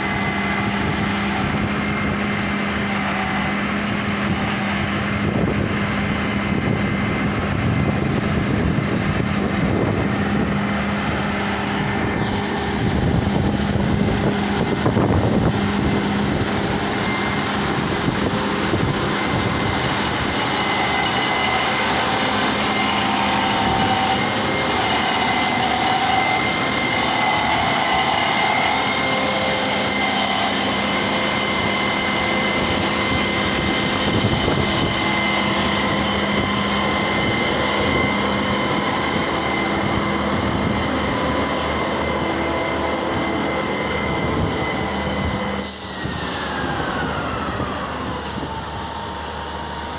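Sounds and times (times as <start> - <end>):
concrete pump engine humming: 0.0 - 49.9
high-pitched whine: 0.0 - 49.9.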